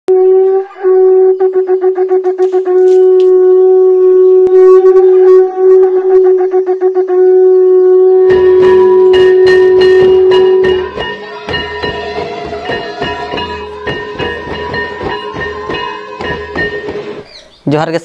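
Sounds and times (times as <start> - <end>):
wind instrument high note: 0.1 - 17.3.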